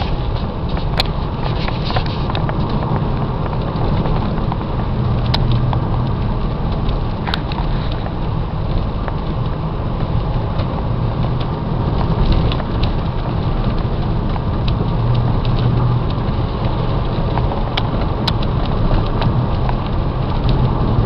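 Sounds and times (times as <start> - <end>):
car engine running at speed: 0.0 - 21.0
road and wind noise: 0.0 - 21.0
light ticks: 0.4 - 21.0.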